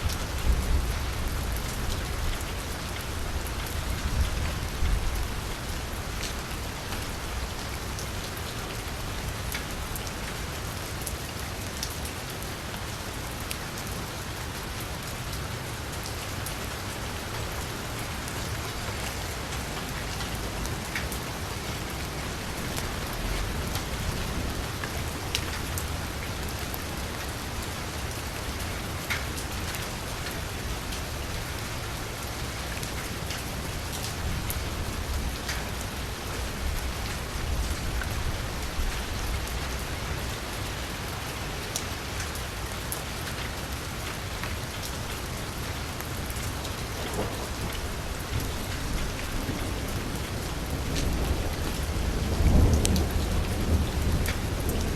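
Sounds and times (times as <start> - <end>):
rain falling on a street: 0.0 - 54.9.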